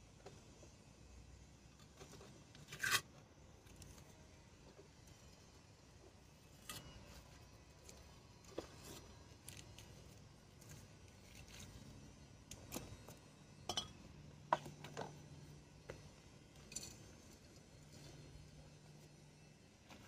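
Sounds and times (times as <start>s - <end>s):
flowerpots and tools clicking: 1.8s - 19.0s.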